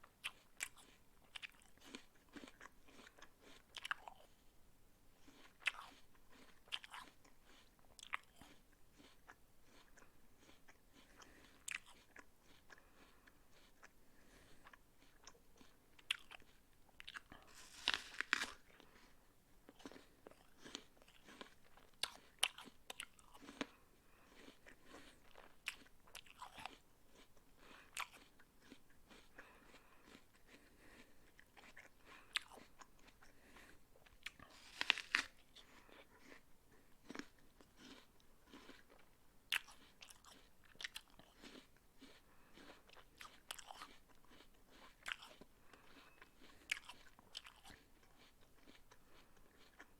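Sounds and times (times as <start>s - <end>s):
person crunching an apple: 0.1s - 4.4s, 5.2s - 49.9s.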